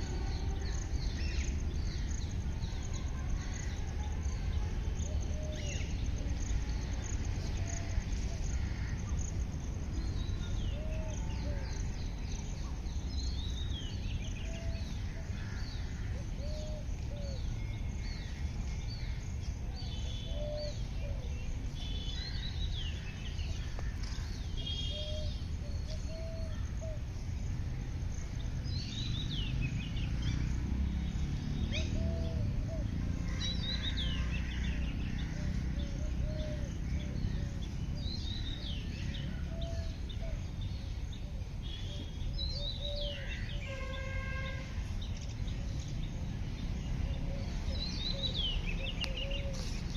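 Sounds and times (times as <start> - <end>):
birds chirping and calling: 0.0 - 49.9.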